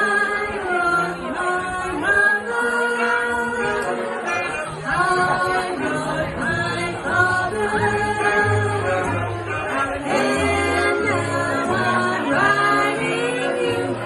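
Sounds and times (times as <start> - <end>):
voices holding notes in harmony: 0.0 - 14.0.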